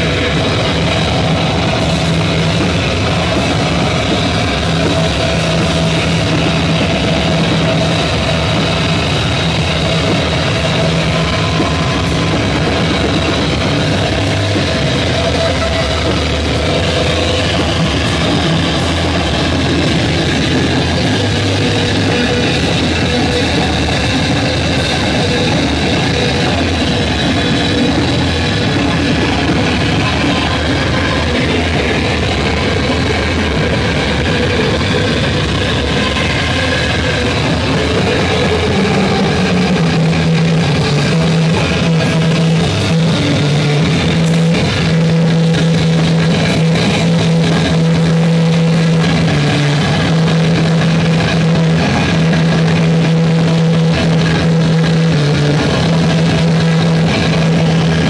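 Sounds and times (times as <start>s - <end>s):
amplified electric guitar: 0.0s - 58.0s
drums: 0.0s - 58.0s
rock band playing live: 0.0s - 58.0s.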